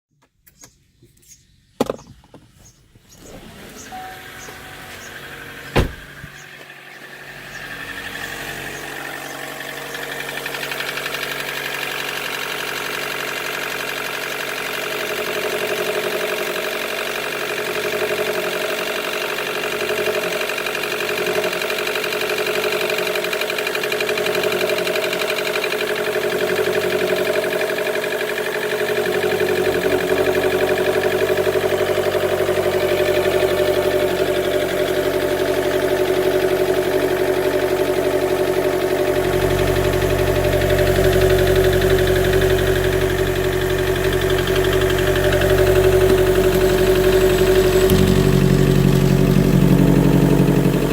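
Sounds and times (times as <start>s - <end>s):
car engine running roughly: 3.7s - 50.9s.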